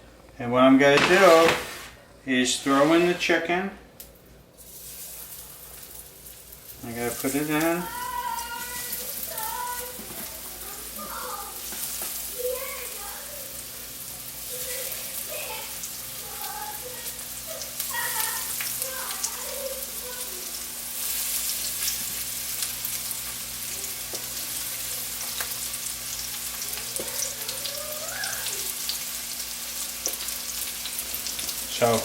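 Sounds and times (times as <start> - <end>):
chicken frying in oil: 4.6 - 32.0.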